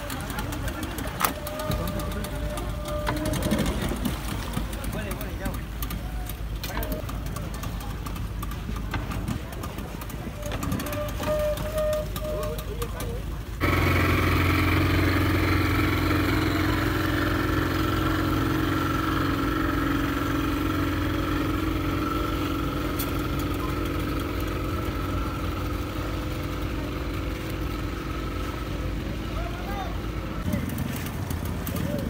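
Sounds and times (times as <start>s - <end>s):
outboard motor idling: 0.0s - 32.0s.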